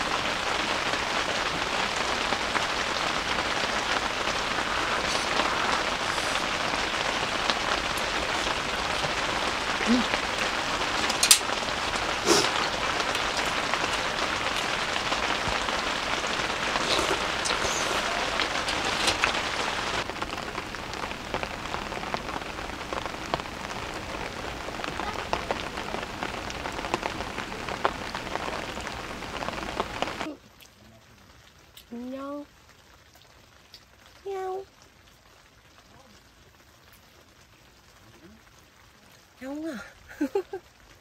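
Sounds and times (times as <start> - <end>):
rain on a tent: 0.0 - 41.0.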